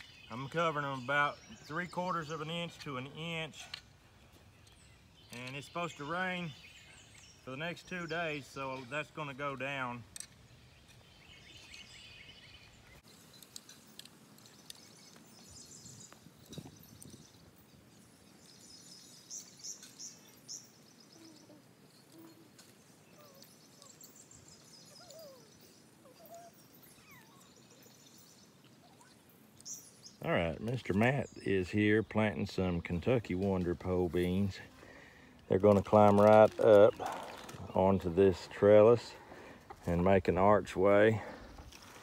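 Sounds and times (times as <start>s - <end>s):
faint songbirds chirping: 0.0s - 42.0s.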